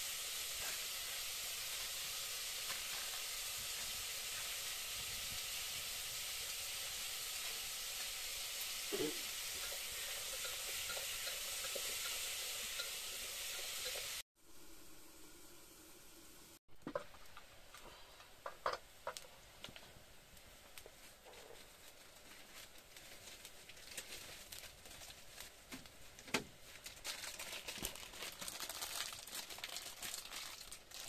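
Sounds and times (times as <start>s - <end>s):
fire crackling: 0.0s - 26.0s
pot boiling hiss: 0.0s - 31.0s.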